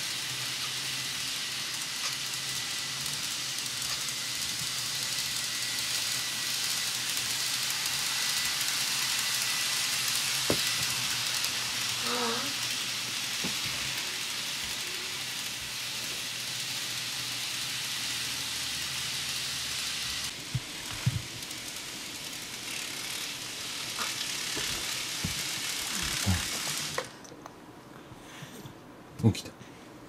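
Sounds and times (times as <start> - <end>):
model train whirring rattle: 0.0 - 27.2.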